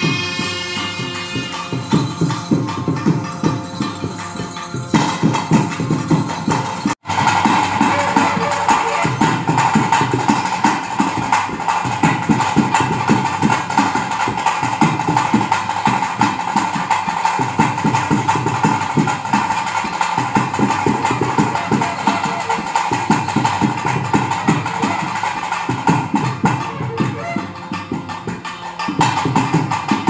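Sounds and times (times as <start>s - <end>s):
fast steady drumming: 0.0s - 30.0s.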